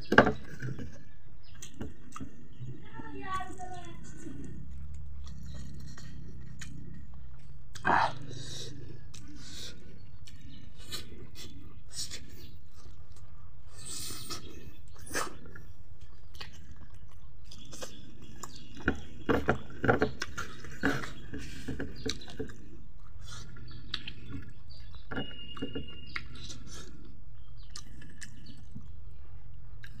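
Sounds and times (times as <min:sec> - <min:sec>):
wet chewing and mouth smacks: 0:04.1 - 0:30.0.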